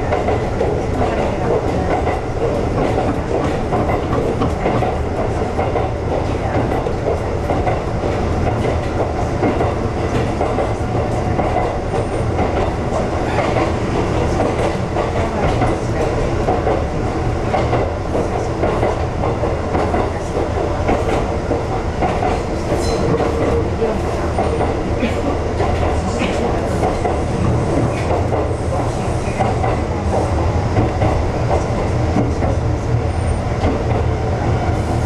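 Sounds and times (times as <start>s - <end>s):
train wheels rumbling: 0.0s - 35.0s.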